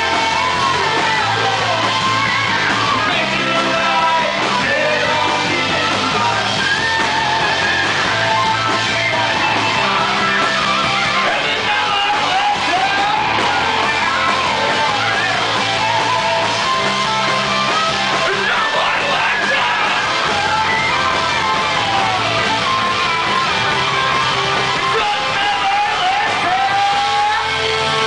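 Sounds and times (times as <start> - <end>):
person singing and yelling: 0.0 - 16.9, 18.0 - 28.0
distorted electric guitars: 0.0 - 28.0.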